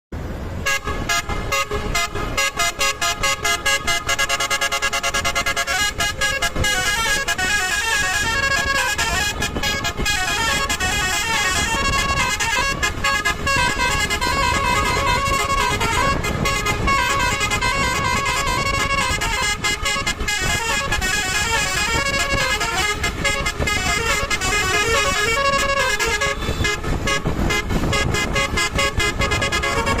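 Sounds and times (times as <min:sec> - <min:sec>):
multi-tone bus horn melody: 0:00.2 - 0:30.0.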